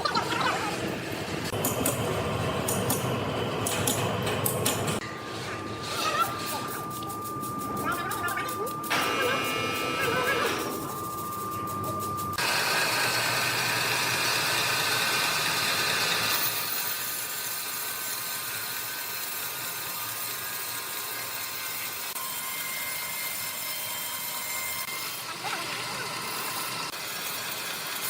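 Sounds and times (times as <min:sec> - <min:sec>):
sawmill machinery drone and whine: 0:00.0 - 0:28.0.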